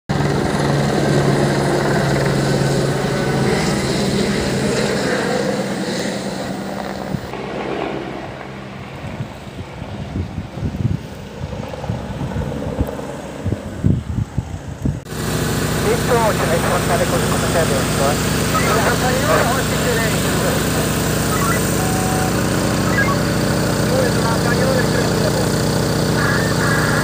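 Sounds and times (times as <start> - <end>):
helicopter rotor and engine drone: 0.1 - 27.0.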